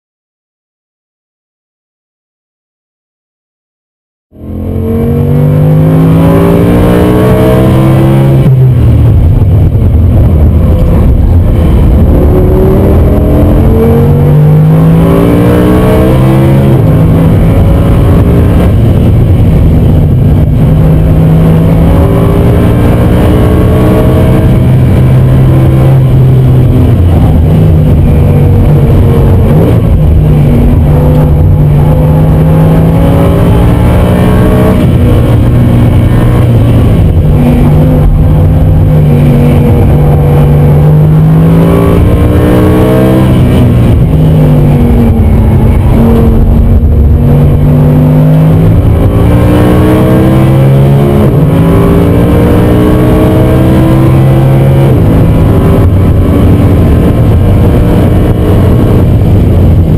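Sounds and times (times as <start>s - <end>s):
car engine at full throttle: 4.3s - 59.9s.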